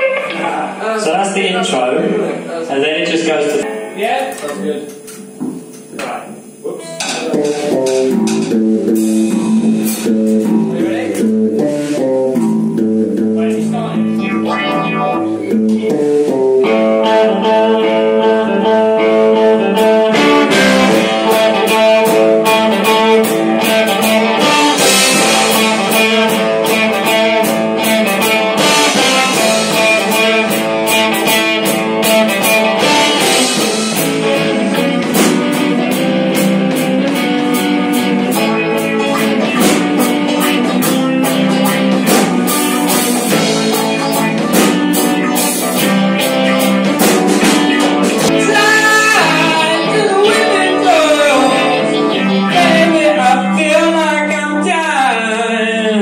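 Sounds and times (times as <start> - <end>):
electric guitars playing: 0.0 - 56.0
drum beat: 4.9 - 17.6, 19.4 - 52.8.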